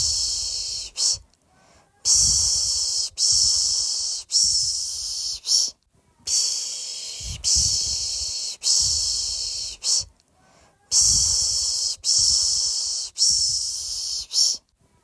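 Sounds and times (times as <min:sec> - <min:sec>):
person shushing: 0:00.0 - 0:14.7.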